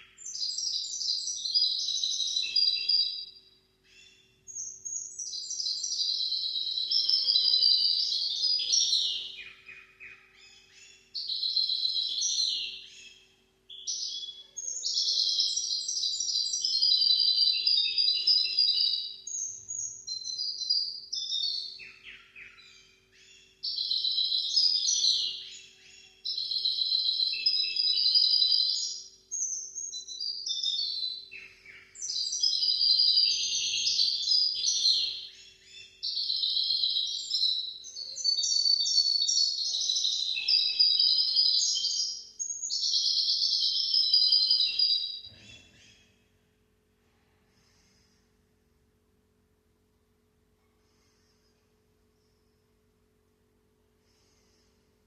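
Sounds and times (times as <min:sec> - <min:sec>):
finch singing warbled song: 0:00.0 - 0:46.0
faint steady hum: 0:00.0 - 0:55.0.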